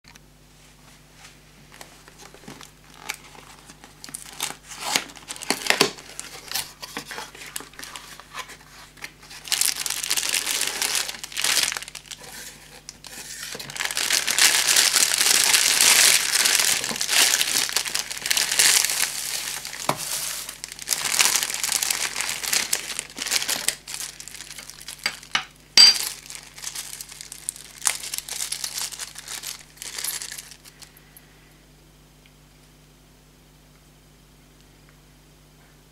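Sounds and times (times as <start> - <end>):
plastic film crinkling: 1.7 - 31.0
plastic bag crinkling: 2.0 - 31.0.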